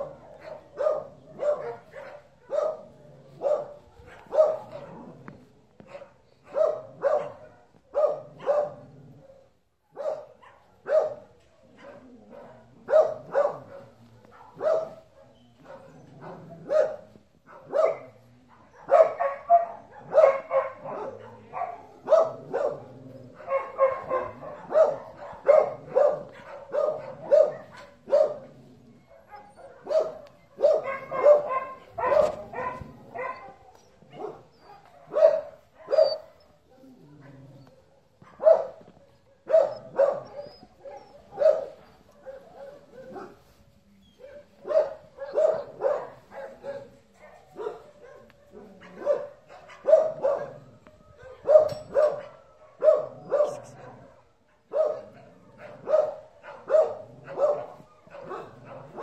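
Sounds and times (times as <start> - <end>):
dog barking: 0.0 - 5.2, 5.8 - 43.5, 44.2 - 59.0.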